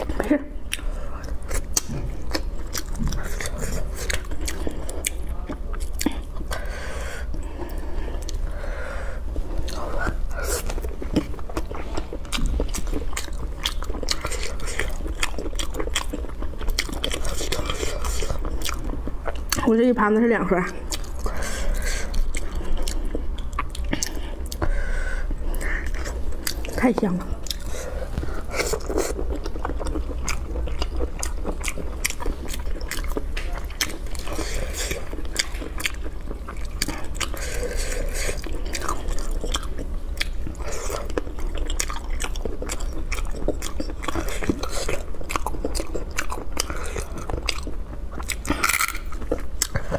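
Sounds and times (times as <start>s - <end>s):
person chewing crunchy food: 0.0s - 19.8s, 20.5s - 49.9s
steady low hum: 0.0s - 49.9s.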